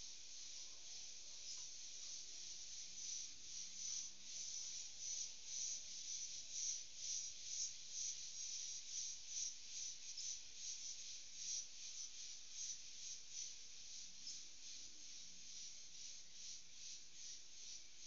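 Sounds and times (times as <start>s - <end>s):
insects rasping in chorus: 0.0s - 18.0s.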